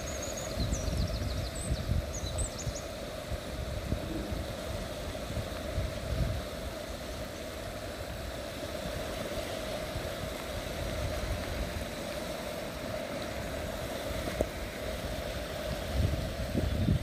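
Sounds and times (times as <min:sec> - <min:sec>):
fast-flowing stream: 0:00.0 - 0:17.0
wind buffeting microphone: 0:00.0 - 0:17.0.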